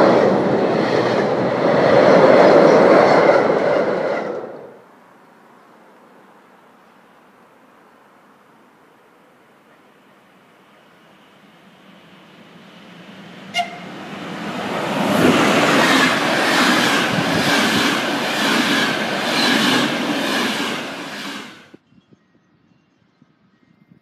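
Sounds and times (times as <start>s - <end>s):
passenger train passing: 0.0s - 21.8s.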